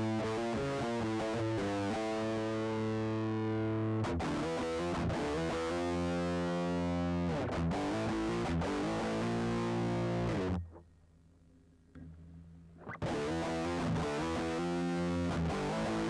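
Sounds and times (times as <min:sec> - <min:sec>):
distorted electric guitar chords: 0:00.0 - 0:10.8, 0:12.8 - 0:16.0.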